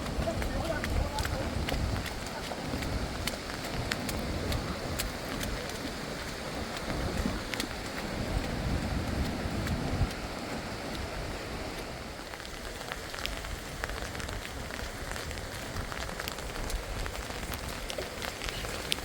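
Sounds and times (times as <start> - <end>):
heavy rain pattering: 0.0 - 19.0.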